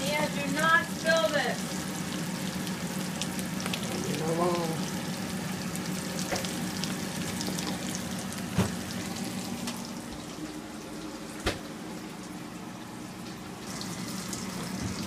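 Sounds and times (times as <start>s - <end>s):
oil sizzling in a skillet: 0.0s - 12.4s, 13.1s - 15.0s.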